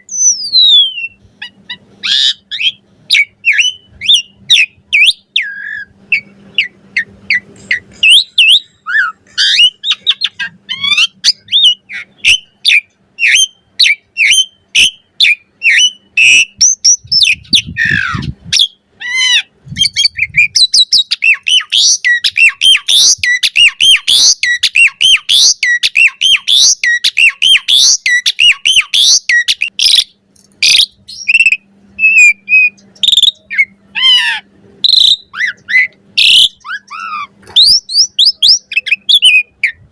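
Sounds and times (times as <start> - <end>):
starling chattering song: 0.0 - 39.9.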